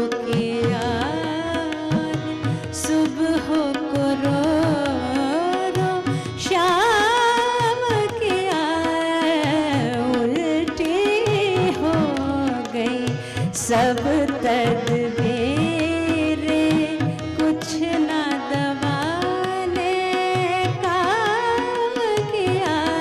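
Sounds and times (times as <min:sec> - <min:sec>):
tabla playing: 0:00.0 - 0:23.0
woman singing: 0:00.0 - 0:23.0.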